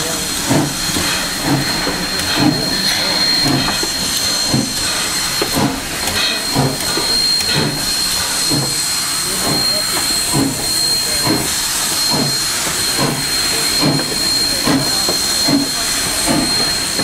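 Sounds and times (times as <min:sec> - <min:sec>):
steam locomotive hissing: 0:00.0 - 0:17.0
thin steady high tone: 0:01.2 - 0:17.0.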